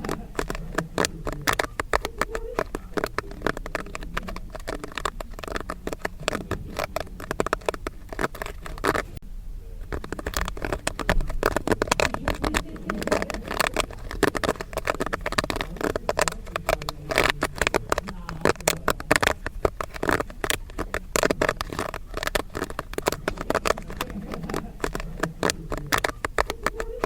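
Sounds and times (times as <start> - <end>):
popcorn kernels popping: 0.0 - 9.2, 9.8 - 27.0.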